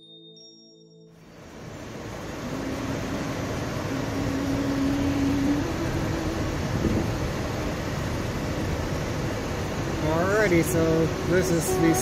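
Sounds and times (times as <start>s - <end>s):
faint whine: 0.7s - 12.0s
car cabin road noise: 2.4s - 12.0s.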